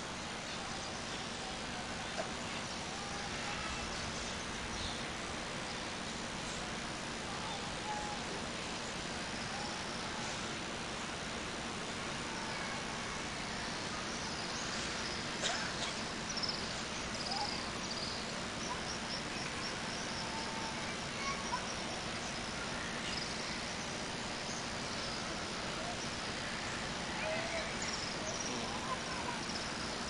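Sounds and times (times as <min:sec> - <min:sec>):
steady open-air hiss: 0:00.0 - 0:30.0.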